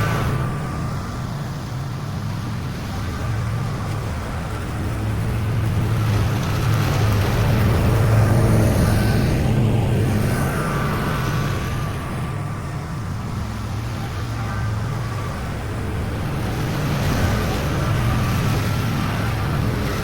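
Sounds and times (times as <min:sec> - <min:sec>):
riding mower engine: 0:00.0 - 0:20.0.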